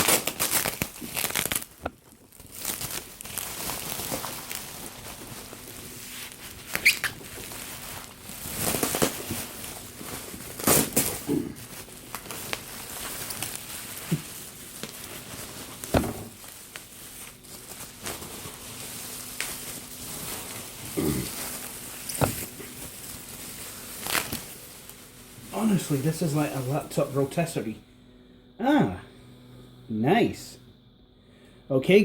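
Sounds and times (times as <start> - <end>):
bubble wrap rustling: 0.0 - 27.8.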